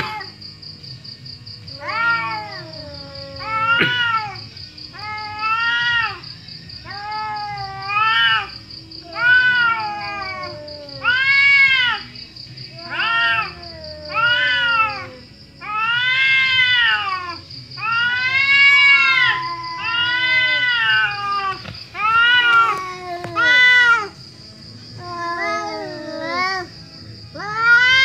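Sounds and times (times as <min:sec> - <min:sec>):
cats yowling: 0:00.0 - 0:00.4, 0:01.7 - 0:24.2, 0:24.9 - 0:28.0.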